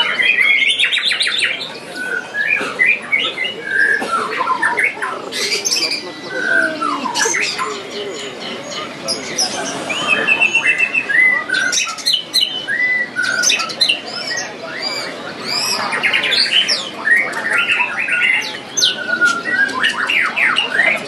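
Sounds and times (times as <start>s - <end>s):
birds singing whistles and trills: 0.0s - 21.0s.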